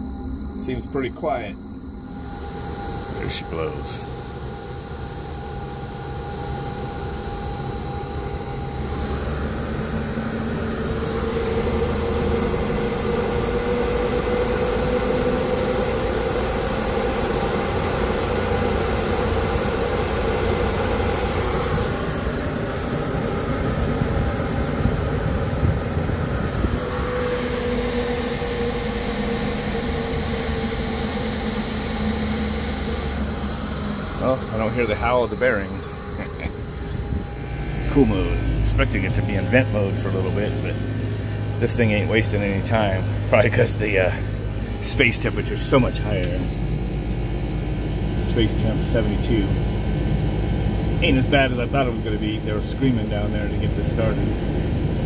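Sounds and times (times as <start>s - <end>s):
fan rushing air with hum: 0.0s - 55.0s.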